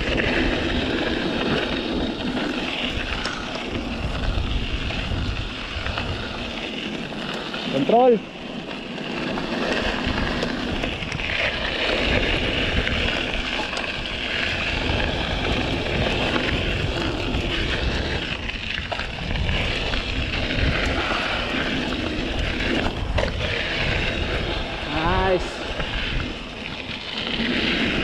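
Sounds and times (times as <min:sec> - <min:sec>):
bike tyre noise and rattle: 0:00.0 - 0:28.0
wind rumbling on microphone: 0:00.0 - 0:28.0.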